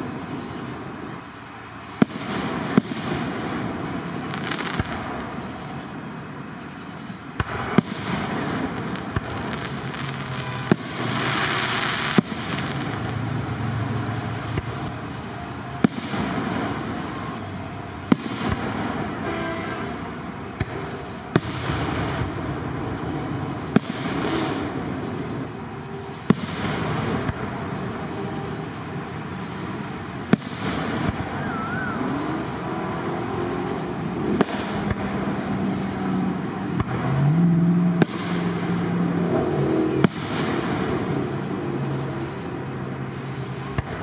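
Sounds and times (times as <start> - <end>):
continuous rumbling: 0.0 - 44.0.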